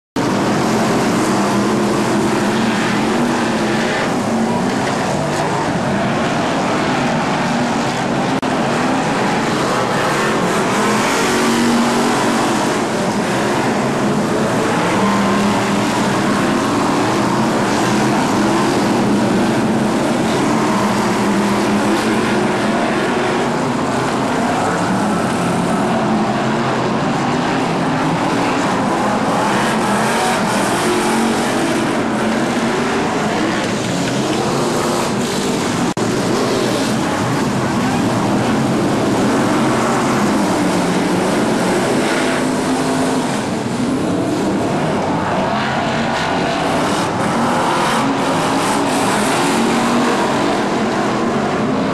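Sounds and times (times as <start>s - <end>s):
racing car engines: 0.2s - 51.9s.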